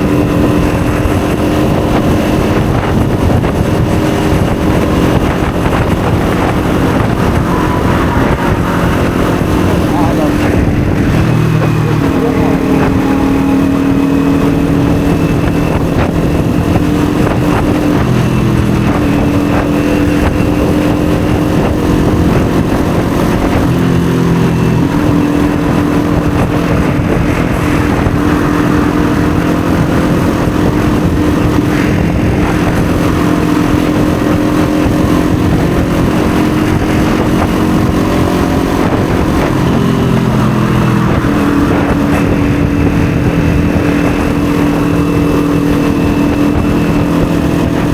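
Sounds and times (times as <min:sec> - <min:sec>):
motorcycle engine running: 0:00.0 - 0:47.9
steady rush of noise: 0:00.0 - 0:47.9.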